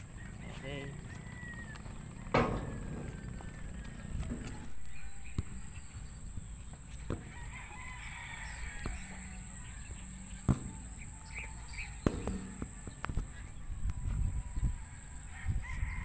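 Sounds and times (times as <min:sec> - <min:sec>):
rooster crowing: 0:00.0 - 0:16.0.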